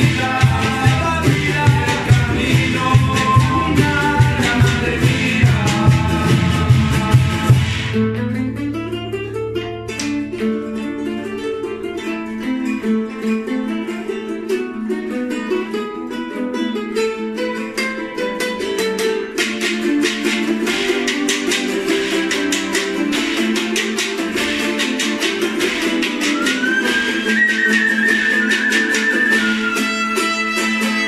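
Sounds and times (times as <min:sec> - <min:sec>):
acoustic guitars strummed: 0:00.0 - 0:31.0.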